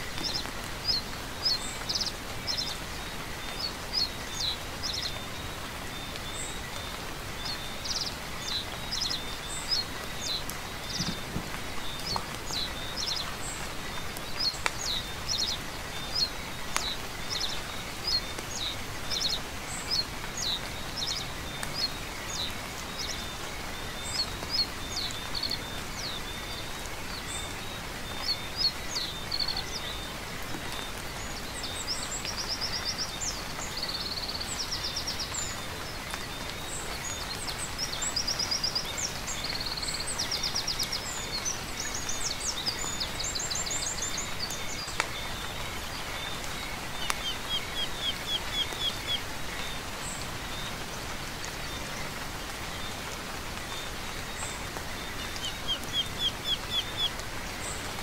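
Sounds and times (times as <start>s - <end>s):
songbirds chirping and trilling: 0.0s - 58.0s
steady rain hiss: 0.0s - 58.0s.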